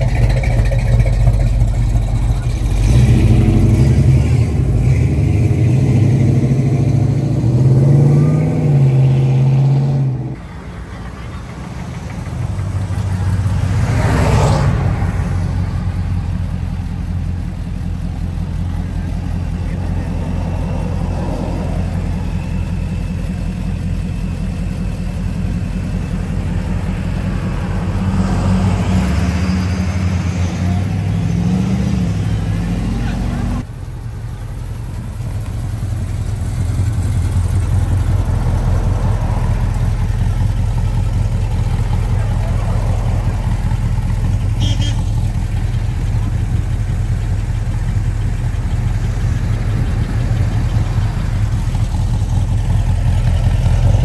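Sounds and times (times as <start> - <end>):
car passing close: 0.0 - 16.6, 26.0 - 54.0
car engines idling and revving: 0.0 - 54.0.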